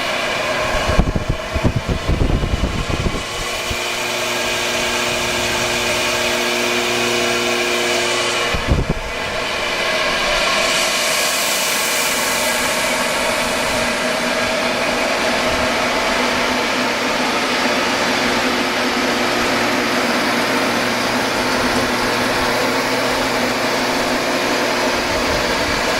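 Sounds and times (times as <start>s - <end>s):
air compressor running: 0.0s - 25.9s.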